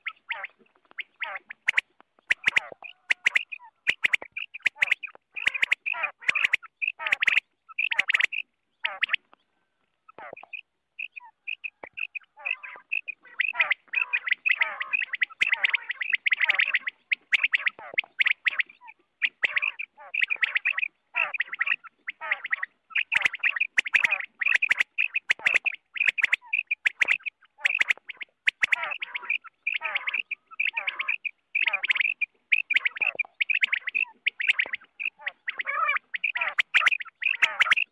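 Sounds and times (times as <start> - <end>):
quail calling: 0.0 - 37.9.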